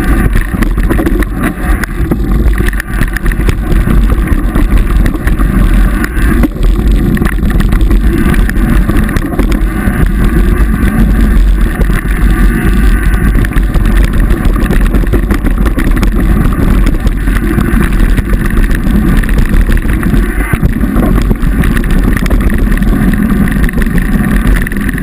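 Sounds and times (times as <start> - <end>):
bike rattles and knocks: 0.0 - 25.0
wind rush on microphone: 0.0 - 25.0.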